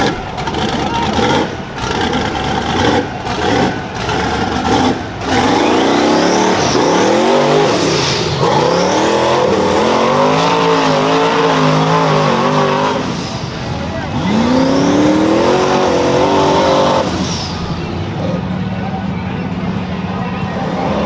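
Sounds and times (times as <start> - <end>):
engine revving under hard throttle: 0.0 - 21.0.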